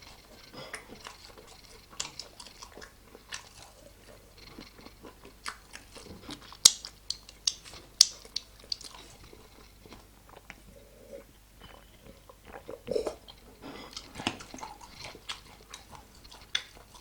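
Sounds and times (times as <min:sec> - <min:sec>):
chewing and crunching: 0:00.0 - 0:17.0.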